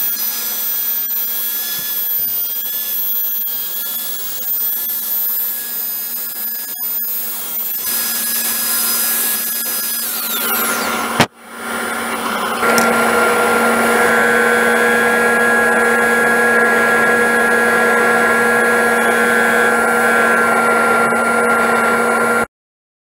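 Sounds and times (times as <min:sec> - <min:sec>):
drum sander running: 0:00.0 - 0:22.5
dust collector running: 0:00.0 - 0:22.5.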